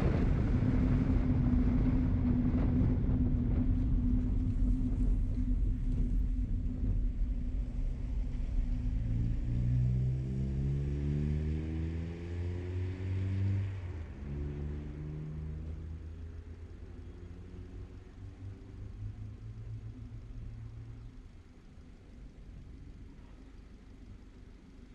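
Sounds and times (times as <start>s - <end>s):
vehicle engine rumbling: 0.0s - 24.9s.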